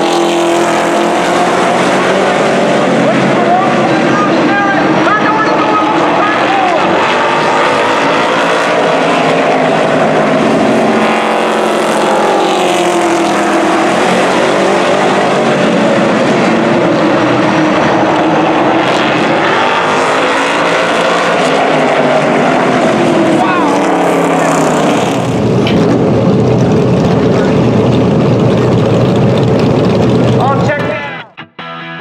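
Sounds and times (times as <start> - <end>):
stock car engines racing: 0.0 - 31.3.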